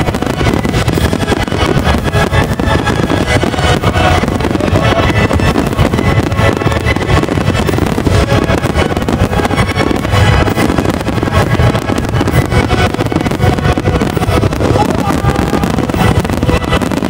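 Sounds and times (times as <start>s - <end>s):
fireworks bursting: 0.0s - 17.0s
music playing: 0.0s - 17.0s.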